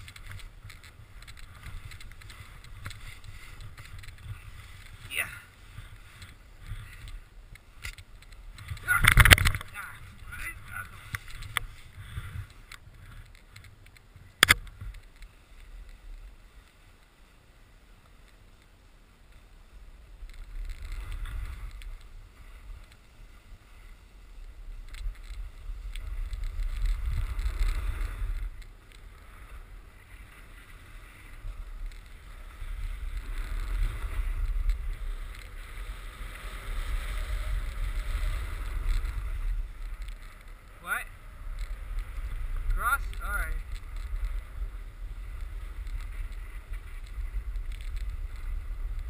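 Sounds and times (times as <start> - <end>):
snowboard scraping over snow: 0.0 - 49.0
wind rumbling on microphone: 0.0 - 49.0.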